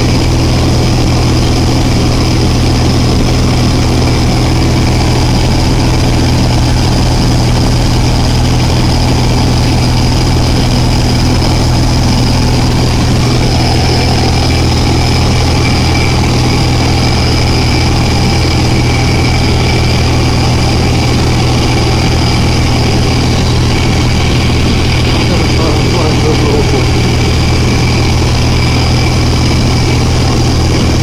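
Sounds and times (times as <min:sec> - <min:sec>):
aircraft engine and propeller: 0:00.0 - 0:31.0
thin steady whine: 0:00.0 - 0:31.0.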